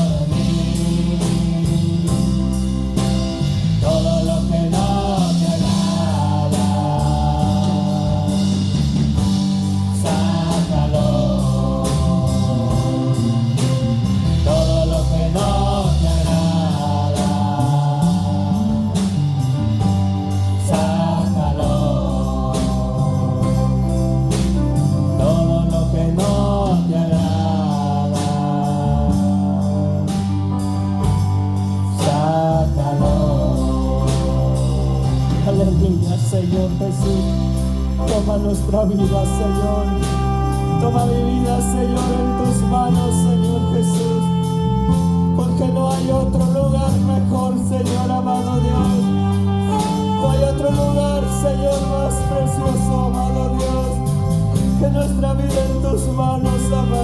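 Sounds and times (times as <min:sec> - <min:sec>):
person singing worship song: 0:00.0 - 0:30.8, 0:31.8 - 0:57.0
band playing steady beat: 0:00.0 - 0:57.0.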